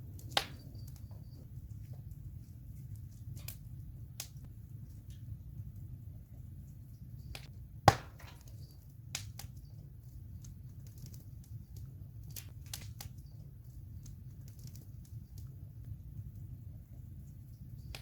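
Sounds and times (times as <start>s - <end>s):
fire crackles and pops: 0.0s - 18.0s
low rumble of flames: 0.0s - 18.0s.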